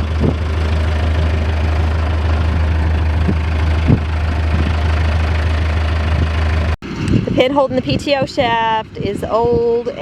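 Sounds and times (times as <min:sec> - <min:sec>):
tractor engine idling: 0:00.0 - 0:08.8.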